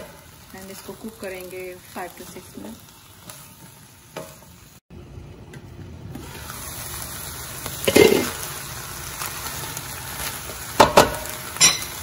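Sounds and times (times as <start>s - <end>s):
food sizzling in a frying pan: 0.0s - 4.9s, 5.6s - 12.0s.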